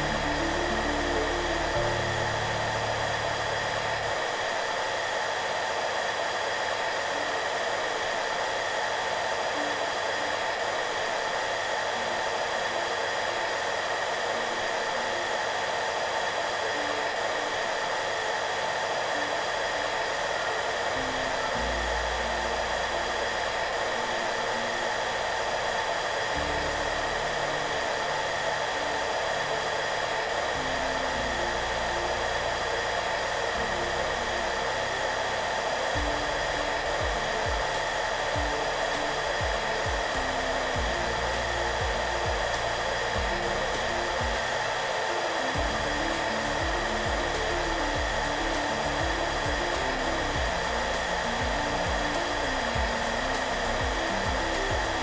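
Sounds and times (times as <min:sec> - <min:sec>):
hair dryer running: 0:00.0 - 0:55.0
soft background music: 0:00.0 - 0:55.0.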